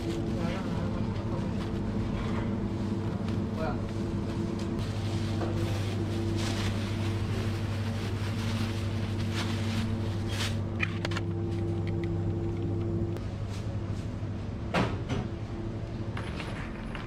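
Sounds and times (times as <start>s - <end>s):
refrigerator and ventilation hum: 0.0s - 17.0s.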